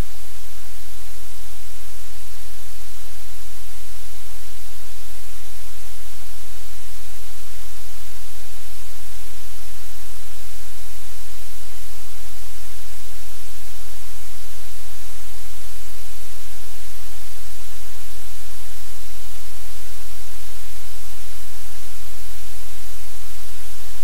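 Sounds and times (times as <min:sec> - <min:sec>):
low electrical hum: 0:00.0 - 0:24.0
static hiss: 0:00.0 - 0:24.0.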